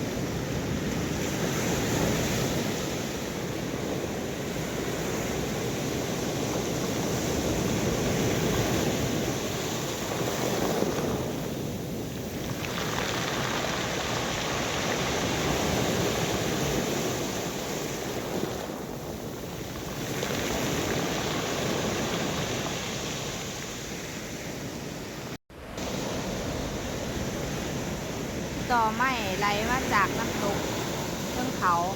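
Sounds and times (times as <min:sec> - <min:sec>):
rough sea surf washing ashore: 0:00.0 - 0:31.9.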